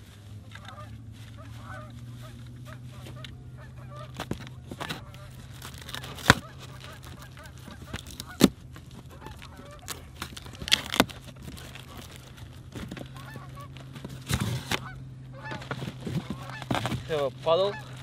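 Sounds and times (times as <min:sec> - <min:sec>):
cardboard and plastic rustling: 0:00.0 - 0:18.0
geese honking: 0:00.0 - 0:18.0
steady low hum: 0:00.0 - 0:18.0.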